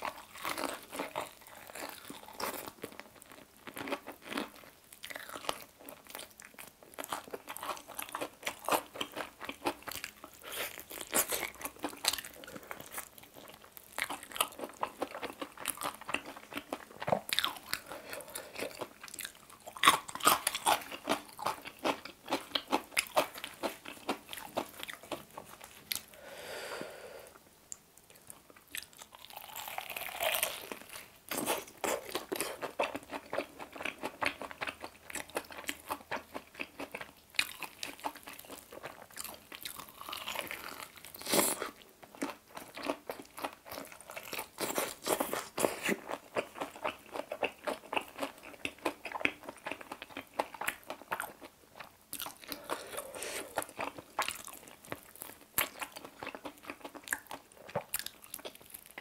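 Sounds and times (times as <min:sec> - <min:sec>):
crunchy chewing of fried chicken: 0:00.0 - 0:26.7, 0:28.1 - 0:59.0.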